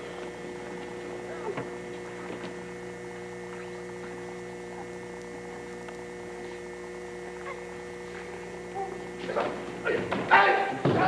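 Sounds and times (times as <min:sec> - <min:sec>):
electrical hum with fixed tones: 0:00.0 - 0:11.0.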